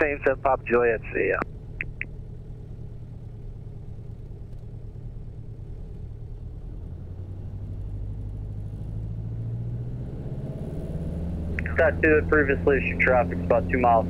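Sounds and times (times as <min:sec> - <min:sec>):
piston aircraft engine droning: 0:00.0 - 0:14.0.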